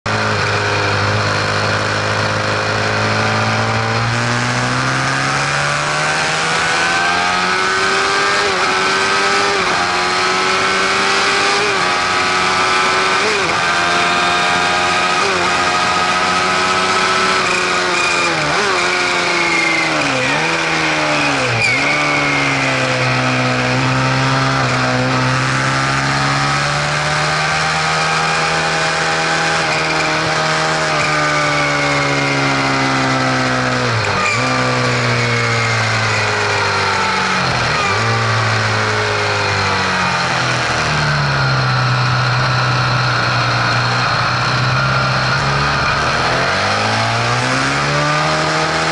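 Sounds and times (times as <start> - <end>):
vehicle engine running: 0.1 - 48.9.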